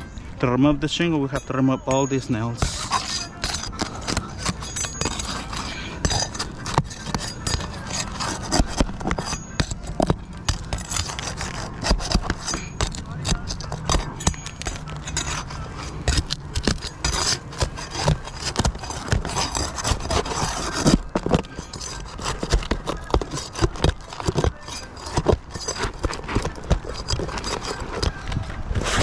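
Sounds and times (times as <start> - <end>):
scraping and rubbing: 1.3 - 29.0.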